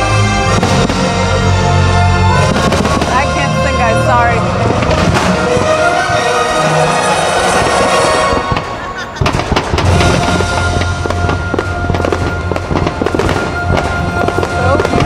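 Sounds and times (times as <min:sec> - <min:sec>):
firework bangs and crackles: 0:00.0 - 0:15.0
music soundtrack: 0:00.0 - 0:15.0.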